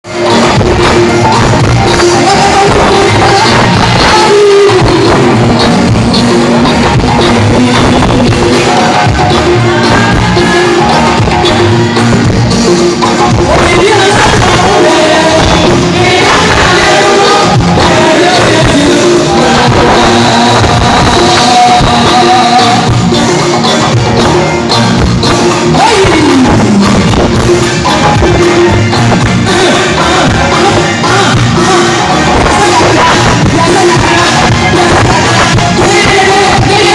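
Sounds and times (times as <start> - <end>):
gospel band playing: 0.0 - 36.9
person singing: 0.1 - 36.9.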